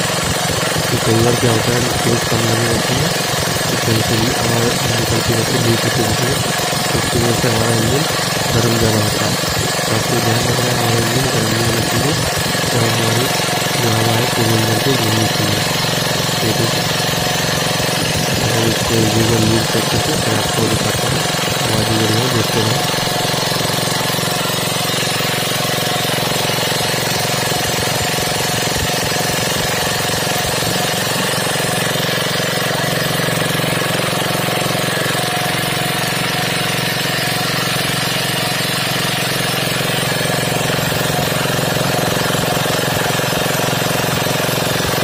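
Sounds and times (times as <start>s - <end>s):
petrol engine running steadily: 0.0s - 45.0s.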